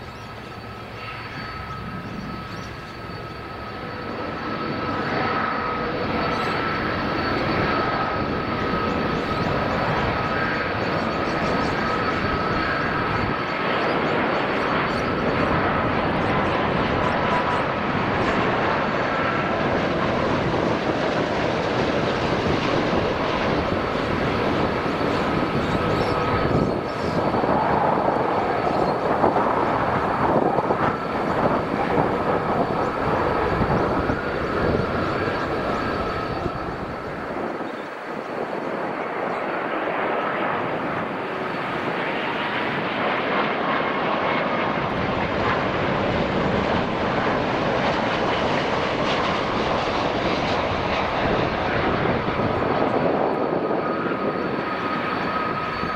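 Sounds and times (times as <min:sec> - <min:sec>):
airliner approach whine: 0:00.0 - 0:55.9
jet airliner landing: 0:00.0 - 0:55.9.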